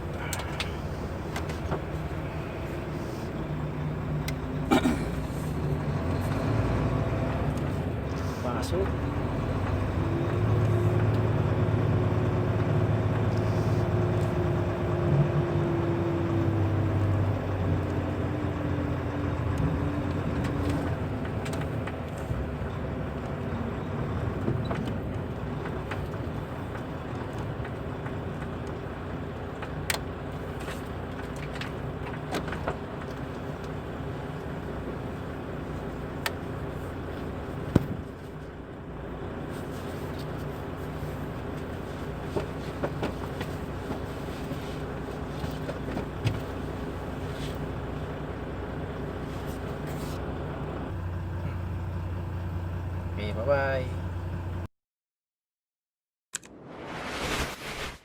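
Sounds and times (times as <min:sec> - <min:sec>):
truck engine running: 0:00.0 - 0:54.7.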